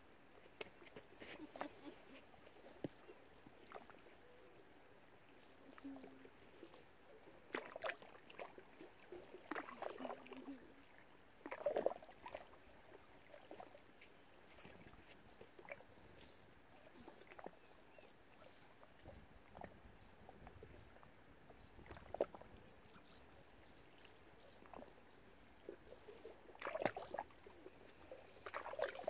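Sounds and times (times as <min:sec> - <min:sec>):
water splashing and lapping: 0:00.4 - 0:04.4, 0:05.2 - 0:29.0.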